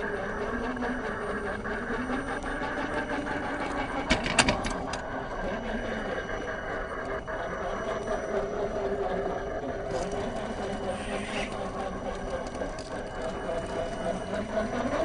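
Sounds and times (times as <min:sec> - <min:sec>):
toy truck mechanical drone: 0:00.0 - 0:15.0.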